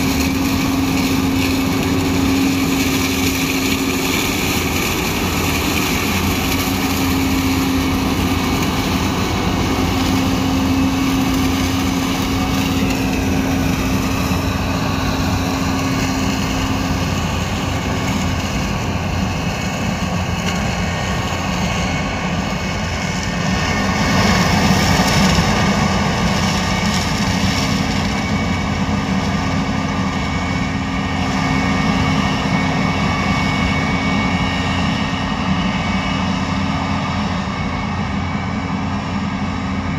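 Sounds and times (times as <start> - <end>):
combine harvester engine and threshing drone: 0.0 - 39.9.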